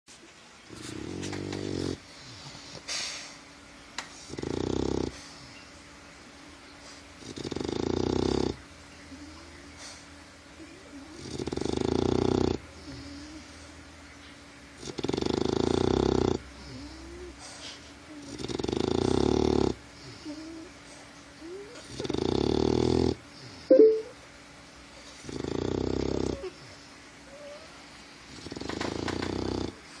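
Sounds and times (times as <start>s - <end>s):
puppy snoring: 0.7s - 3.4s, 4.1s - 5.5s, 6.9s - 13.7s, 14.8s - 23.7s, 25.0s - 30.0s.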